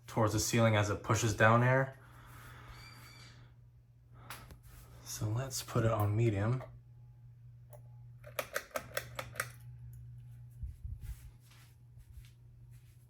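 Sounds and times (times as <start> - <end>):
ceiling fan motor hum: 0.0 - 13.0.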